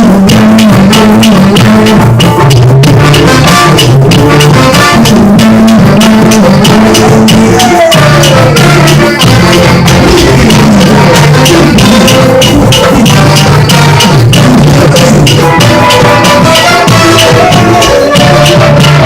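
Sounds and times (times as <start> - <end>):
loud latin-style music: 0.0 - 19.0.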